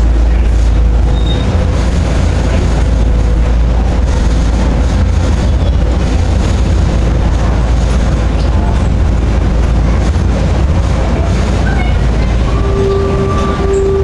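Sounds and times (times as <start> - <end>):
miniature train rumble: 0.0 - 14.0.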